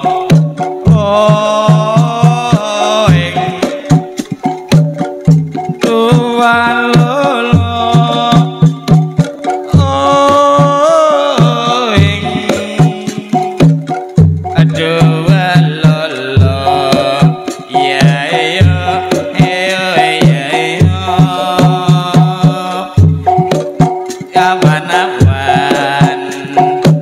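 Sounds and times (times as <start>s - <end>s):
hand drum strokes: 0.0s - 27.0s.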